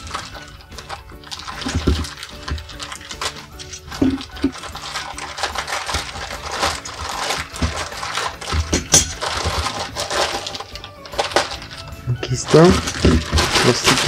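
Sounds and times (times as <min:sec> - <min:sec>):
utility knife cutting plastic: 0:00.0 - 0:11.9
plastic bag crinkling: 0:00.0 - 0:14.0.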